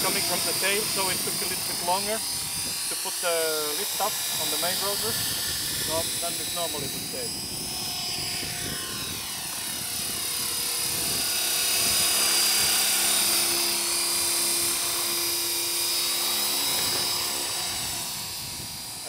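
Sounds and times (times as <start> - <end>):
model helicopter motor whine: 0.0 - 19.0
rotor blades whirring: 0.0 - 19.0.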